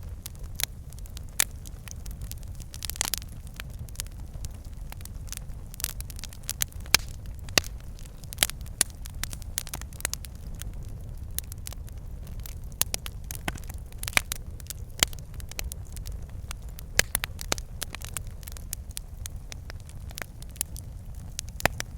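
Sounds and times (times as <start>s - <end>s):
low rumble of flames: 0.0s - 21.9s
wood fire crackling and popping: 0.0s - 21.9s.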